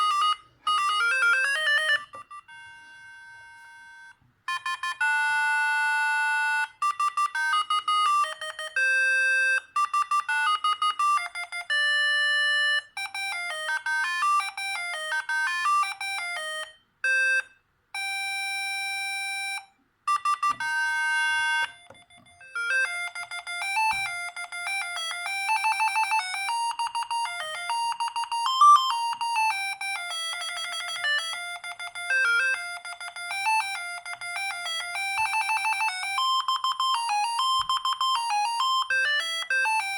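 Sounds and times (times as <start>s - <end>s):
phone ringtone melodies: 0.0s - 39.9s.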